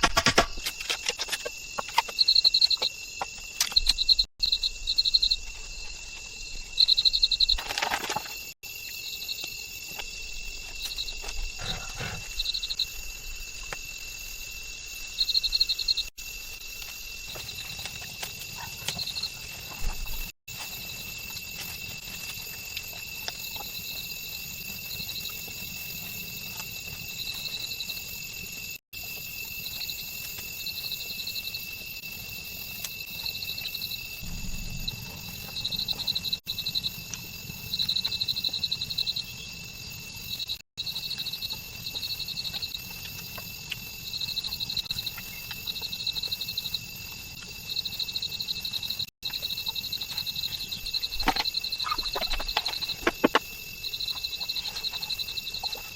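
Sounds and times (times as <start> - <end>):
insects chirping trills: 0.0 - 55.9
insects droning high-pitched: 0.5 - 55.9.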